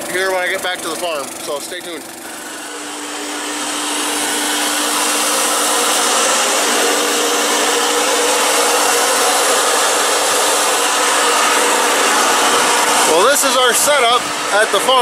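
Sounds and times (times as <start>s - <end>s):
machine whooshing with faint hum: 1.6s - 15.0s.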